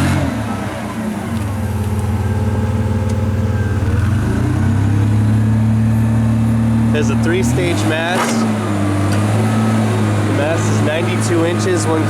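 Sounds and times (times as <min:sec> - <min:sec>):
forklift engine running: 0:00.0 - 0:12.0.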